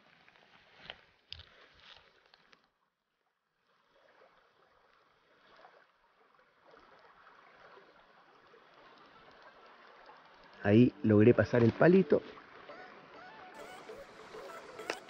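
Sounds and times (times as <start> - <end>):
faint river water flowing: 0.0 - 15.0.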